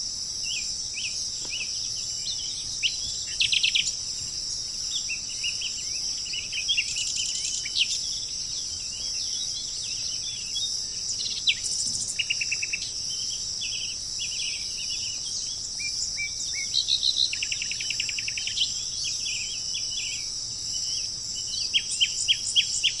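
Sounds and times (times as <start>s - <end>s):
high drone of insects: 0.0s - 23.0s
songbirds chirping: 0.0s - 23.0s.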